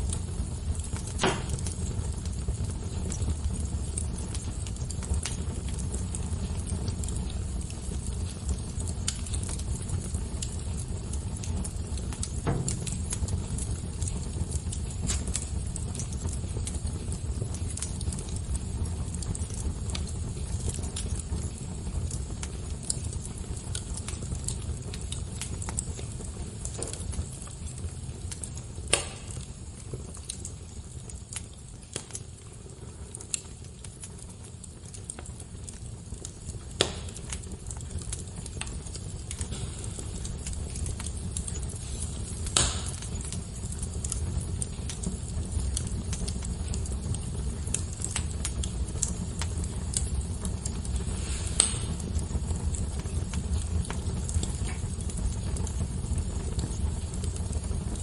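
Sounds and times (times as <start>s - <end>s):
fire crackling with pops: 0.0s - 58.0s.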